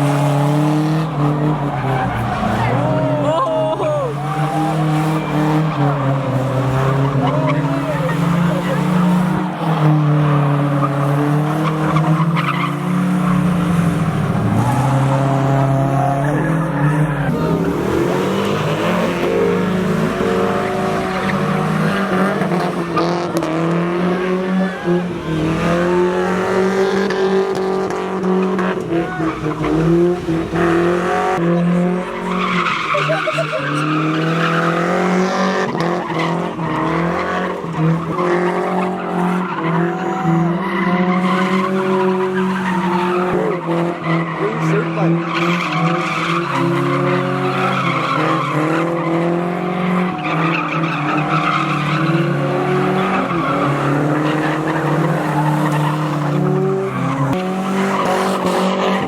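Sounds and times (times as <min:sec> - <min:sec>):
car engines revving: 0:00.0 - 0:59.0
tires squealing on pavement: 0:00.0 - 0:59.0.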